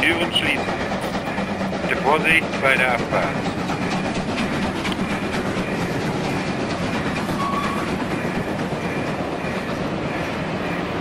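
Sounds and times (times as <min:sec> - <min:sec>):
train wheels clattering: 0:00.0 - 0:11.0.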